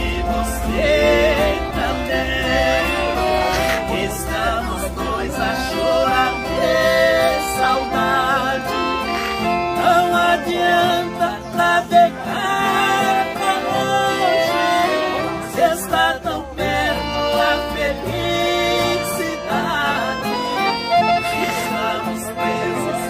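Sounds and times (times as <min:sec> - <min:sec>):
accordions playing melody: 0:00.0 - 0:23.0
acoustic guitars: 0:00.0 - 0:23.0.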